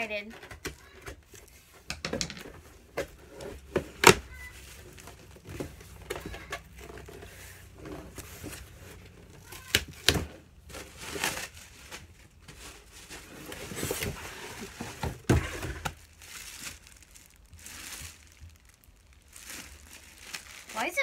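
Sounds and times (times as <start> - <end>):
plastic wrapping crinkling: 3.9 - 21.0.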